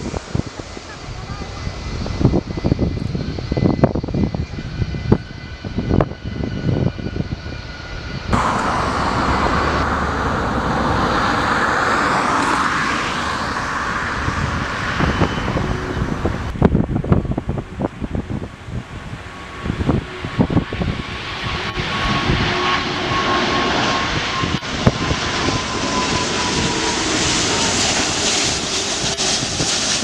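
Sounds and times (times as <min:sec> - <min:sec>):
jet engine whine: 0:00.0 - 0:30.0
jet roar: 0:00.0 - 0:30.0.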